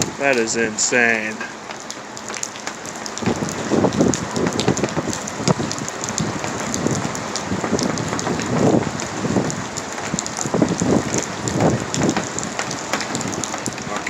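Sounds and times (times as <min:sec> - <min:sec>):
heavy rain beating on a car: 0:00.0 - 0:14.0.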